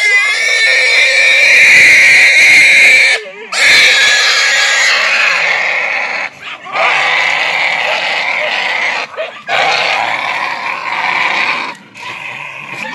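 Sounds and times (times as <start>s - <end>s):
hog squealing: 0.0s - 12.9s.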